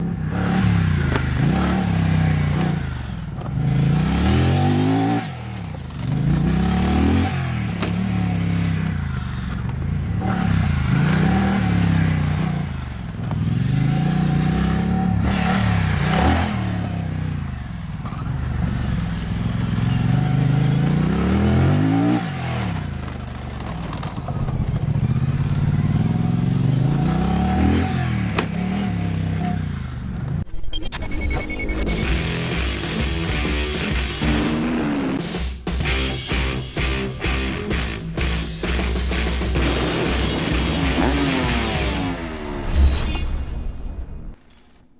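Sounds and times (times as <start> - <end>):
motorcycle engine revving: 0.0 - 30.4, 31.8 - 43.0.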